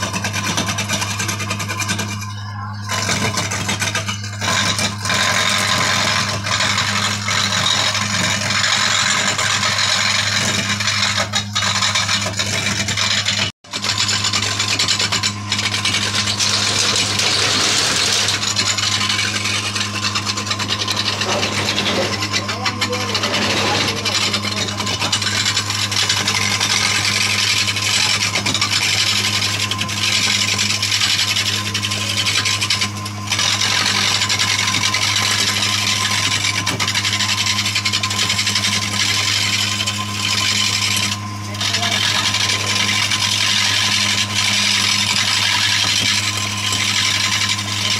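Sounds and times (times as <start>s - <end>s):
tool scraping wood: 0.0s - 47.9s
woodworking machine humming: 0.0s - 47.9s.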